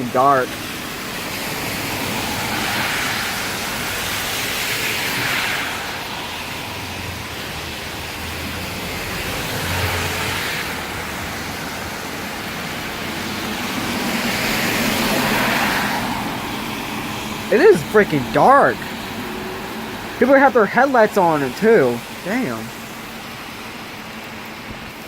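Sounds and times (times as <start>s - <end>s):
cars hissing past on wet road: 0.0s - 25.0s
heavy rain pouring: 0.0s - 25.0s.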